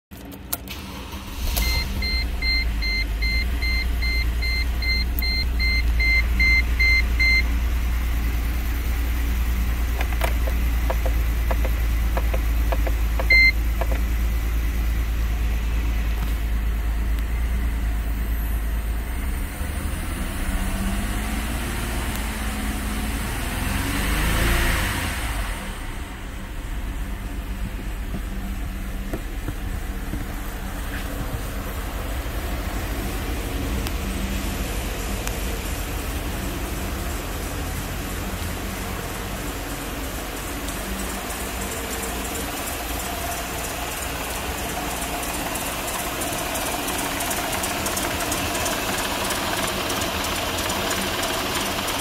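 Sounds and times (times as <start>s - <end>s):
car engine starting and idling: 0.1s - 52.0s
car engine revving: 7.2s - 52.0s.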